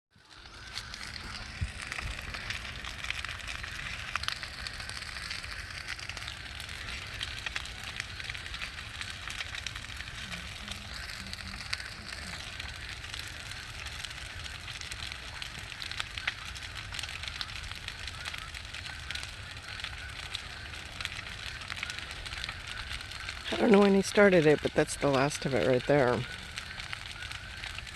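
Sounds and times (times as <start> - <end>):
bonfire crackling and popping: 0.1 - 27.9.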